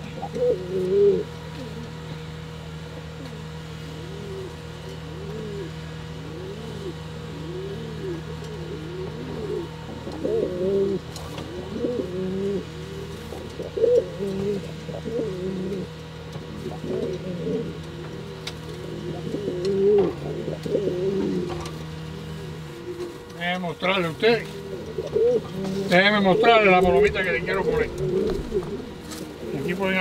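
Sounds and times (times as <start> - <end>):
pigeon cooing: 0.0 - 23.3, 24.2 - 30.0.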